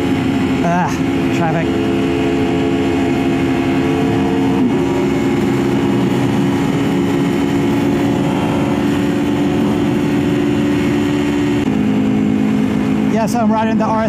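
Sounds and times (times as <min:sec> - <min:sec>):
wind noise rushing: 0:00.0 - 0:13.2
motorcycle engine running: 0:00.0 - 0:14.0.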